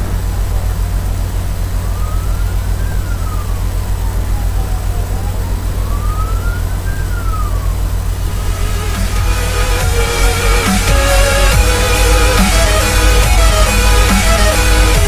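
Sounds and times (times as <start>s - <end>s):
heavy low rumble: 0.0s - 15.0s
siren wailing: 0.0s - 15.0s.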